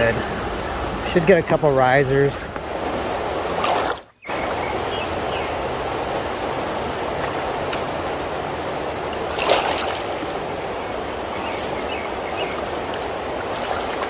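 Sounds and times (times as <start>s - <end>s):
creek flowing over rocks: 0.0s - 14.0s.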